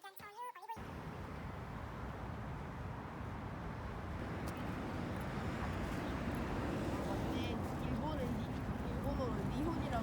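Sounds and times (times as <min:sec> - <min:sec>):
moving vehicle rumble: 0:00.8 - 0:10.0.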